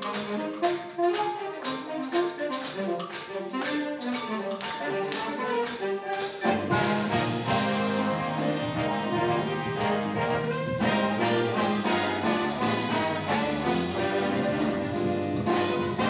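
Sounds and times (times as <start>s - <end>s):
big band playing: 0.0s - 16.0s
brass and saxophone lines: 0.0s - 16.0s
steady percussion beat: 0.0s - 16.0s.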